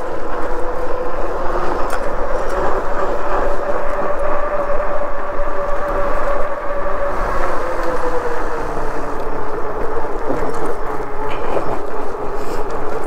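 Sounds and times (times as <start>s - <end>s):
electric bike motor whine: 0.0s - 13.0s
wind rumbling on microphone: 0.0s - 13.0s.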